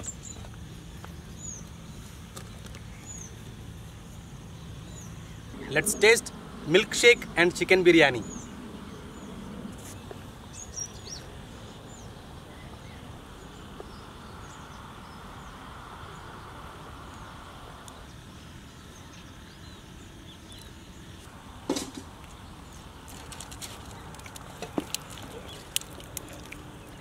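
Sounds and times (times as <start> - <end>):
steady low hiss: 0.0 - 27.0.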